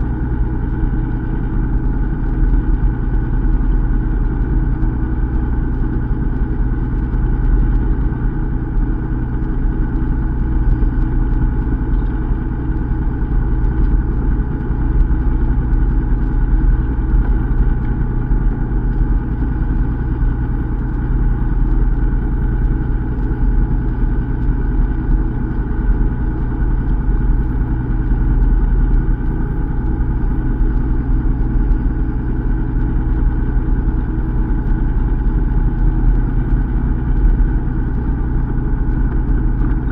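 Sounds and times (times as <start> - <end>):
boat engine running low hum: 0.0 - 39.9.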